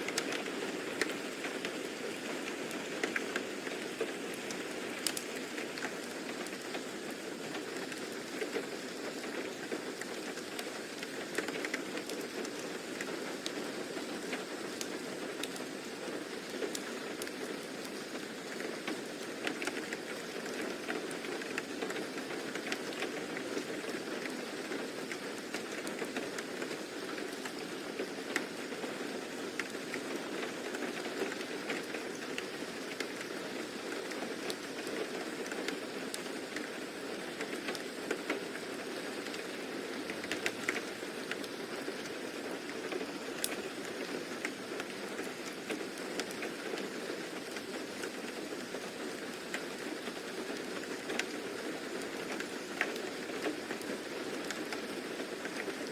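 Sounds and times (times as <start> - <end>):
rain hissing: 0.0 - 55.9
raindrop ticks: 0.1 - 15.8, 16.4 - 28.8, 29.5 - 36.8, 37.4 - 55.8.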